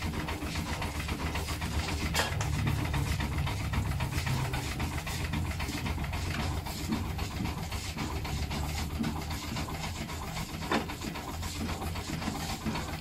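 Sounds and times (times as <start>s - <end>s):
fast even clatter of machinery: 0.0s - 13.0s
steam engine running: 0.0s - 13.0s.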